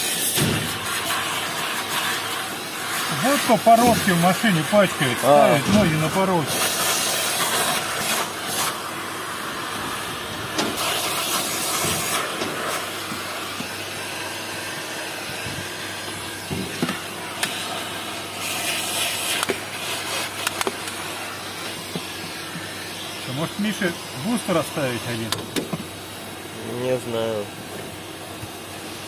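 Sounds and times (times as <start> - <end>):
vacuum cleaner sucking: 0.0 - 25.5.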